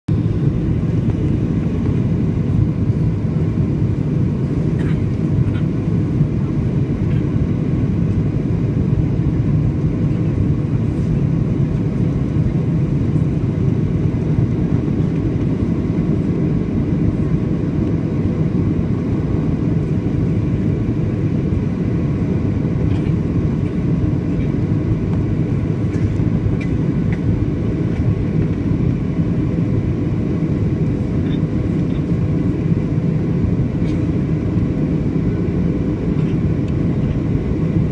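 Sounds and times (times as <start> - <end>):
aircraft cabin engine rumble: 0.1 - 37.9.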